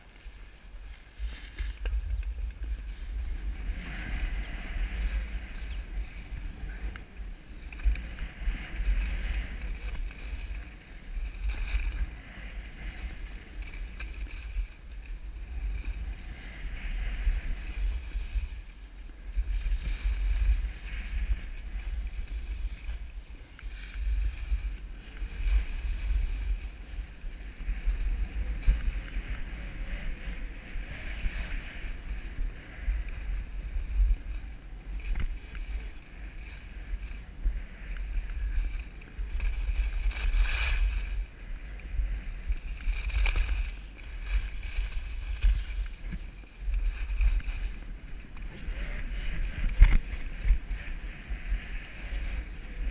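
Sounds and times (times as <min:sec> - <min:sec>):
skis scraping over snow: 0:00.0 - 0:52.9
wind rumble on microphone: 0:00.0 - 0:52.9.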